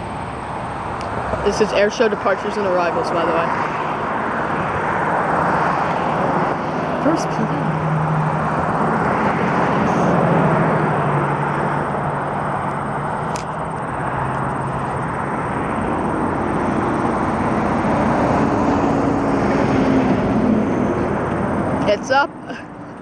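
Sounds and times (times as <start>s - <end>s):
turboprop aircraft engine drone: 0.0s - 23.0s.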